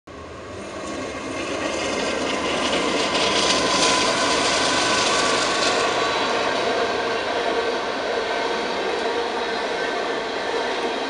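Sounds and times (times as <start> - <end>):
diesel locomotive passing: 0.1 - 11.0.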